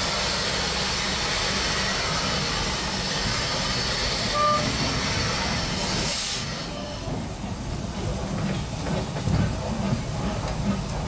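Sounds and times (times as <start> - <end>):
steam train rumbling on track: 0.0 - 11.0.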